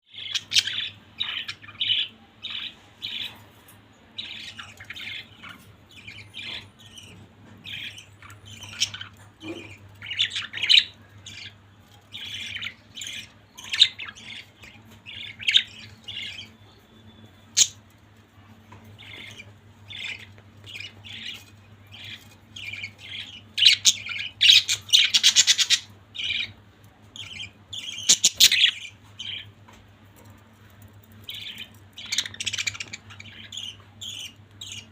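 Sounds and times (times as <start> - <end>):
budgerigars chirping and squawking: 0.1 - 34.9
faint low hum: 0.1 - 34.9.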